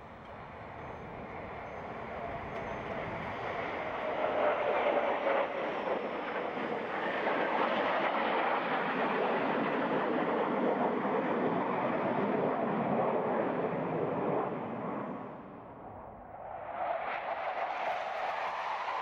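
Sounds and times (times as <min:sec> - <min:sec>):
jet aircraft roar: 0:00.0 - 0:19.0.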